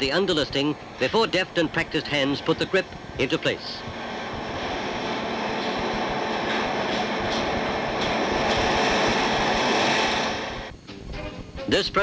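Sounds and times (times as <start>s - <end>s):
steady rushing noise: 0.0s - 11.6s.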